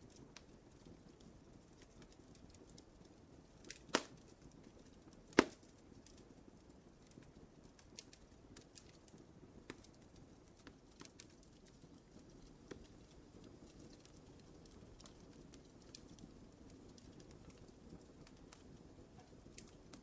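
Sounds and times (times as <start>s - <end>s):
flames rumbling: 0.0s - 20.0s
wood fire pops: 0.0s - 20.0s.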